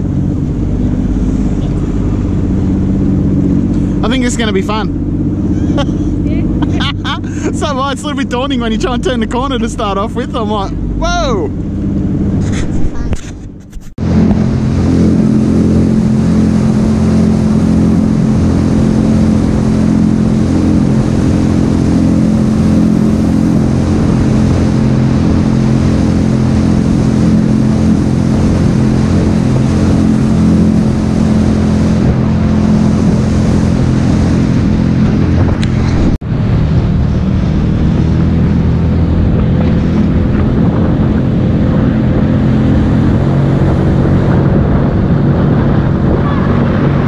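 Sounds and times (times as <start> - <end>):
jet ski engine humming: 0.0 - 47.0
water and wind hiss: 0.0 - 47.0.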